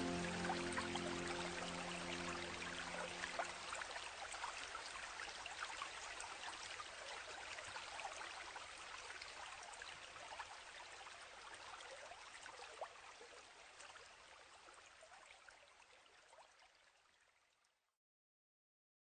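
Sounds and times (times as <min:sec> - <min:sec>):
stream water flowing: 0:00.0 - 0:17.2.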